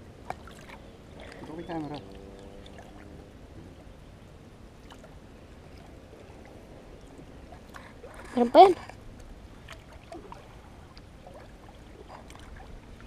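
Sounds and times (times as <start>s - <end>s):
water sloshing and lapping: 0.0s - 13.0s
small splashes: 0.2s - 3.3s, 4.8s - 13.0s.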